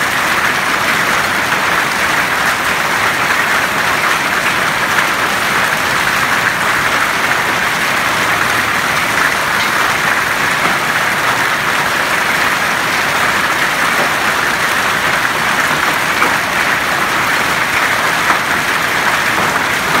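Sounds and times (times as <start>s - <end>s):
hail and rain hissing: 0.0s - 20.0s.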